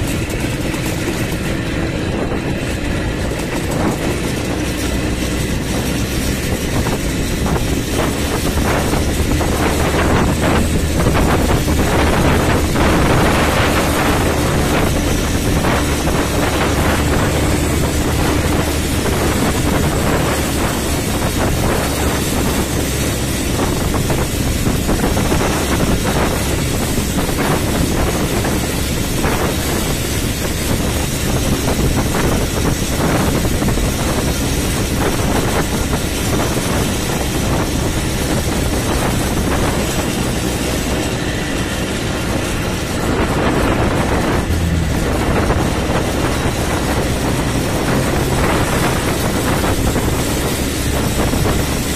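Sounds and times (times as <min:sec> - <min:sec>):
atv engine humming: 0:00.0 - 0:51.9
road noise: 0:00.0 - 0:51.9
wind buffeting microphone: 0:00.0 - 0:51.9.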